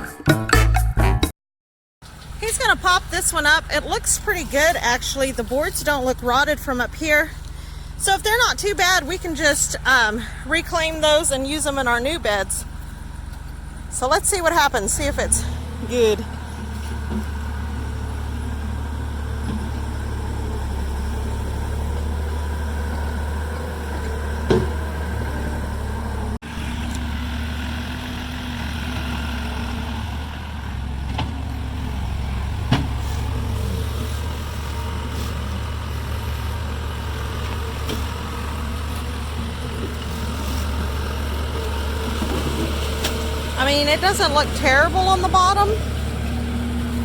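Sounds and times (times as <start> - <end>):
engine humming: 2.0 - 47.0.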